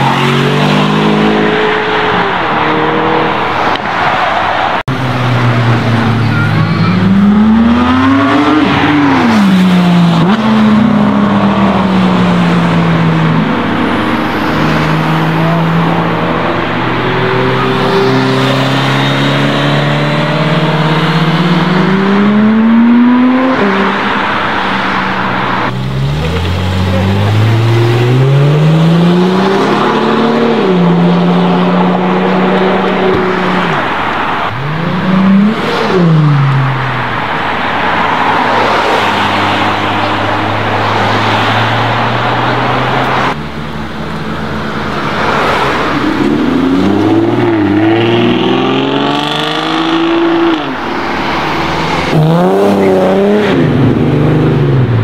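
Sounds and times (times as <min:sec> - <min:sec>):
sports car engines accelerating: 0:04.6 - 0:55.0.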